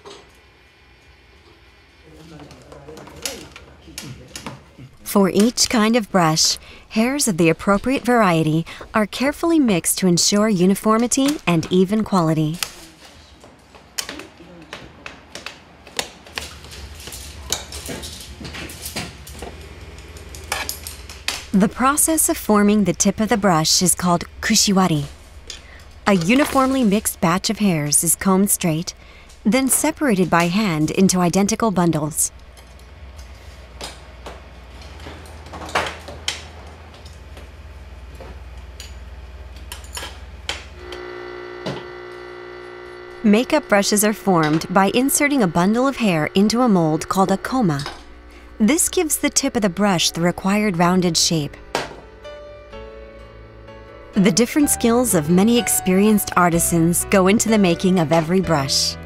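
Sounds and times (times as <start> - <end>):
electrical hum: 0.0 - 59.0
low steady hum: 4.8 - 12.8, 17.2 - 35.2, 35.9 - 59.0.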